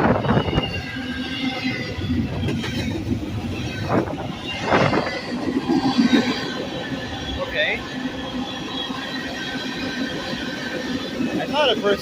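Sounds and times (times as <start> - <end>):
freight train rail rumble: 0.0 - 12.0.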